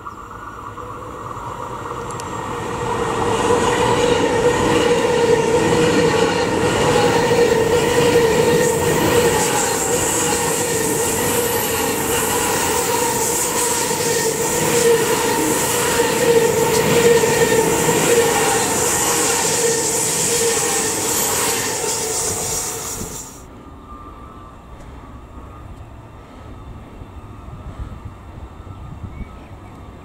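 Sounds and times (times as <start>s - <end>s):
electric train passing: 0.0s - 30.0s
train whine: 0.0s - 30.0s.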